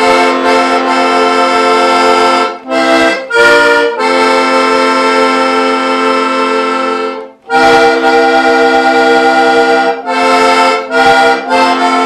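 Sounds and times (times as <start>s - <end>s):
button accordion chords: 0.0s - 12.0s.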